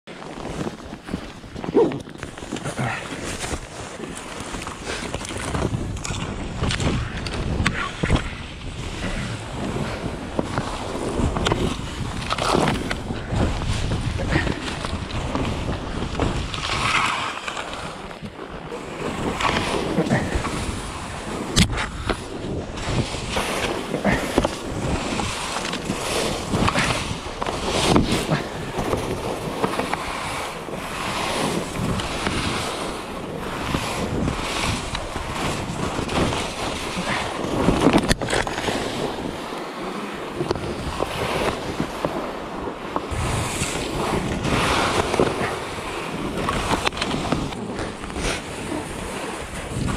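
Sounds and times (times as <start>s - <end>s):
skis scraping over snow: 0.1s - 49.9s
wind buffeting microphone: 0.1s - 49.9s.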